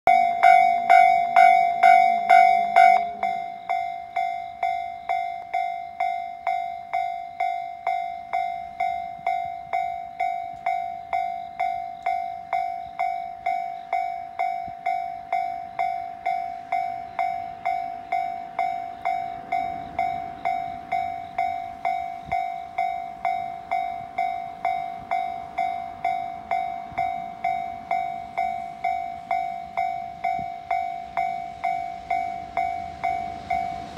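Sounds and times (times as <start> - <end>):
level crossing alarm dinging: 0.1 - 33.9.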